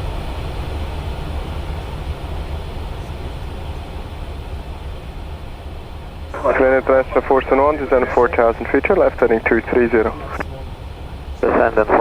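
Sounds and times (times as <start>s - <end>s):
aircraft cockpit rumble: 0.0s - 12.0s.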